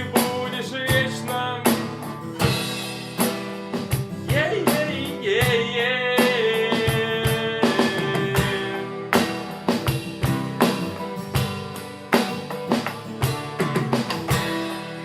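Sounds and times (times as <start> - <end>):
drum kit beat: 0.0 - 15.0
rock band music: 0.0 - 15.0.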